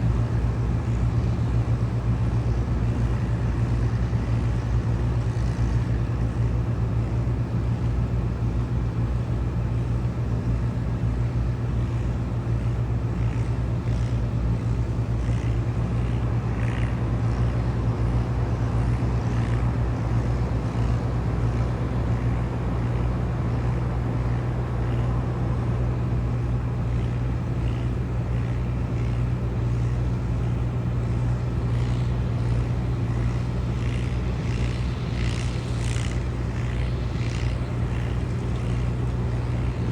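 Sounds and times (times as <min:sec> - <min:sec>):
faint machinery ticks: 0:00.0 - 0:25.1, 0:25.7 - 0:39.9
diesel tractor engine under load: 0:00.0 - 0:39.9.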